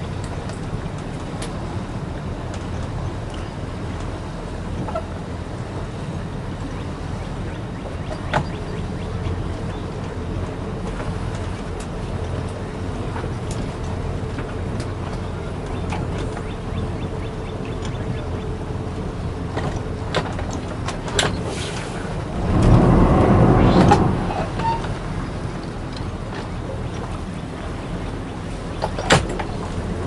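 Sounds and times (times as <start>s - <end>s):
boat engine low rumble: 0.0s - 30.0s.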